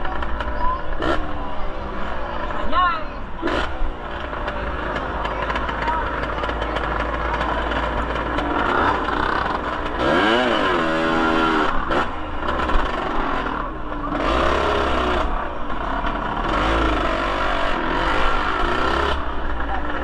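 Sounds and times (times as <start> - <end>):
motorcycle engine revving: 0.0 - 2.5, 3.3 - 20.0
crowd chatter: 0.0 - 20.0.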